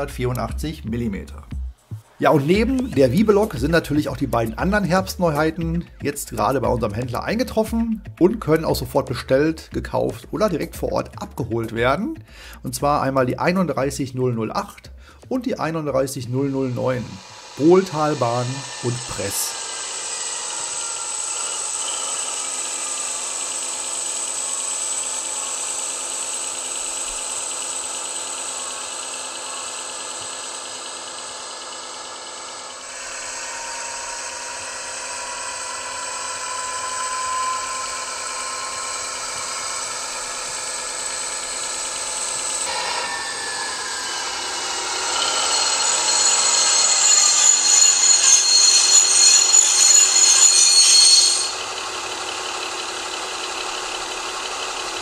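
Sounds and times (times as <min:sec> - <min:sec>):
model train diesel engine sound: 0:02.0 - 0:55.0.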